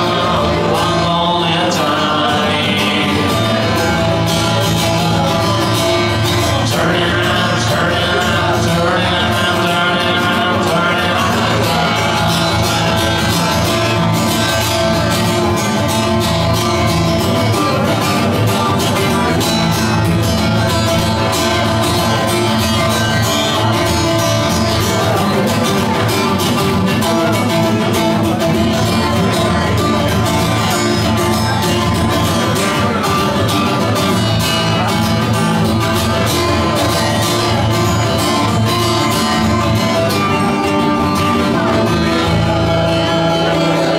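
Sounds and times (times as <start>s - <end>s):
acoustic guitar strumming chords: 0.0s - 43.9s.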